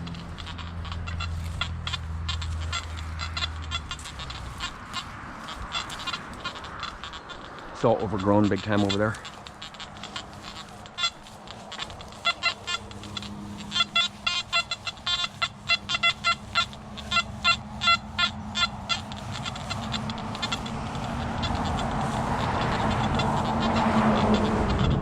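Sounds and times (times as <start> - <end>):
metal detector beeping: 0.0 - 25.0.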